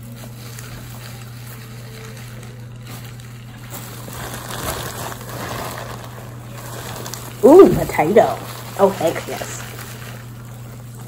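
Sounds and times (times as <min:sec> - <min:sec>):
plastic bag and gloves crinkling: 0:00.0 - 0:11.0.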